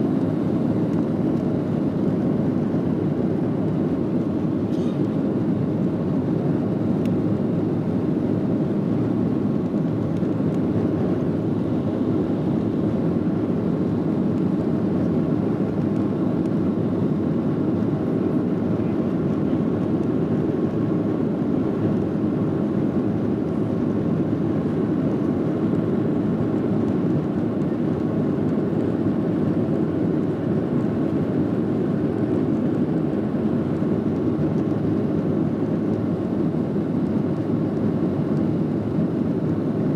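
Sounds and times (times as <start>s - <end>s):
aircraft cabin engine rumble: 0.0s - 39.9s
airflow over fuselage: 0.0s - 39.9s.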